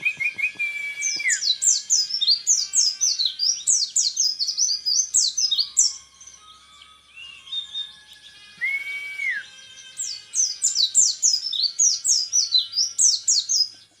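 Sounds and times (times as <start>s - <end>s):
thrush singing whistled notes: 0.0s - 14.0s.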